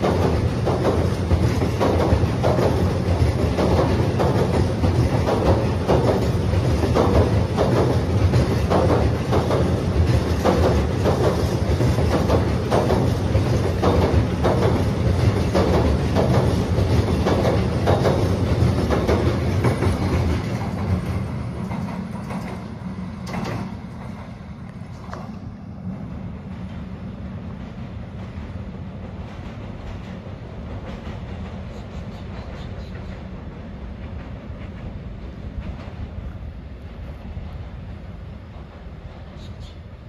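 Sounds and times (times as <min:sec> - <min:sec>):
train rumbling over bridge: 0:00.0 - 0:40.0.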